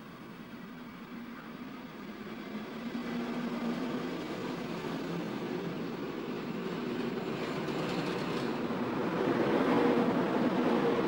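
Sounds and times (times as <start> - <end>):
electric train running on rails: 0.0 - 11.0.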